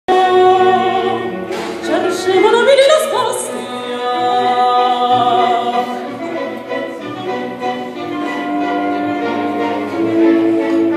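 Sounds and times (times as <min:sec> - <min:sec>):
operatic singing: 0:00.1 - 0:10.9.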